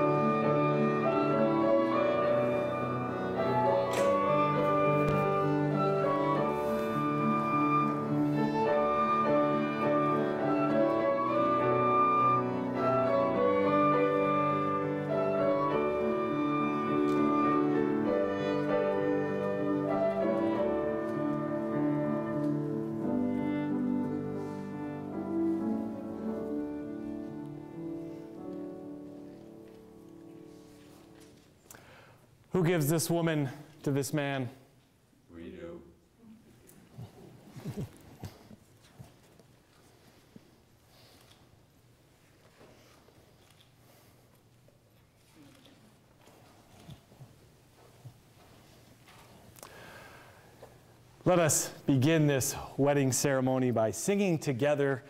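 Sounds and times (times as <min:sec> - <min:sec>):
slow instrumental processional music: 0:00.0 - 0:55.0.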